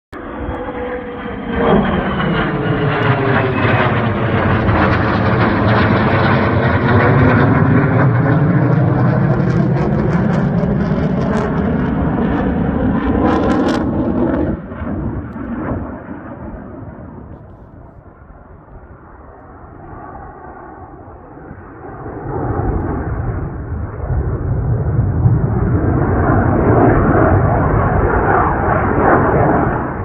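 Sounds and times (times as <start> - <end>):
fighter jet flying past: 0.2 - 30.0.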